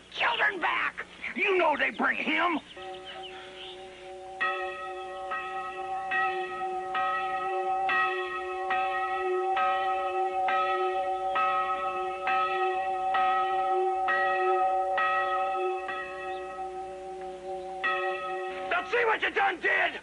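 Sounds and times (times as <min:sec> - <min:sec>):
church bell tolling: 0:02.8 - 0:19.2.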